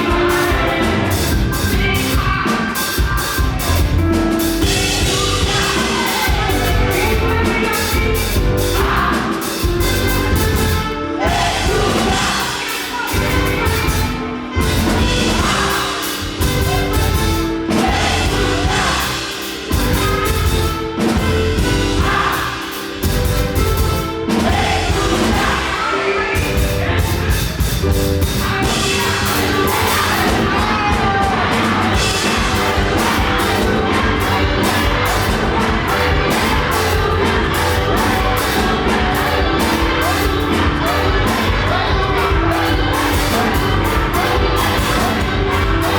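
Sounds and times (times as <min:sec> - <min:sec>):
crowd singing and cheering: 0:00.0 - 0:45.9
live gospel band playing: 0:00.0 - 0:45.9.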